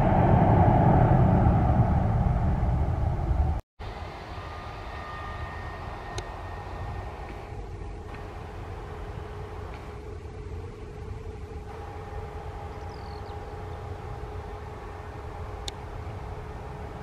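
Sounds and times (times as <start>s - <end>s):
jet airliner taxiing: 0.0s - 17.0s.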